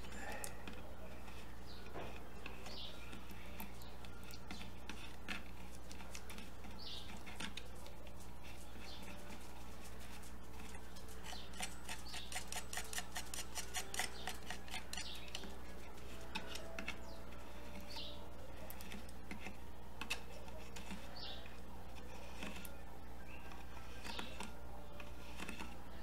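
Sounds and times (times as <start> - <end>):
palette knife scraping and tapping: 0.3 - 26.0.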